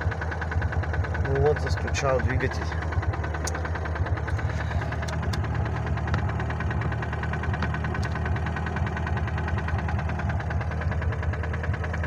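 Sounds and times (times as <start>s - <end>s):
car engine idling with knock: 0.0s - 12.0s.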